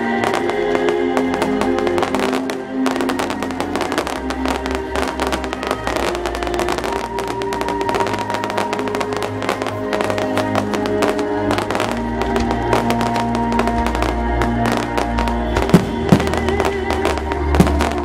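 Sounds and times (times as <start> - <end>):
fireworks bangs: 0.0 - 18.0
fireworks crackling: 0.0 - 18.0
music: 0.0 - 18.0.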